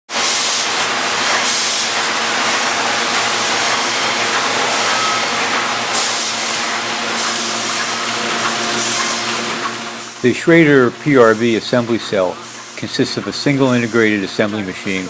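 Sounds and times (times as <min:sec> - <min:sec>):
machine hum and clatter: 0:00.1 - 0:15.0
constant air hiss: 0:00.2 - 0:15.0.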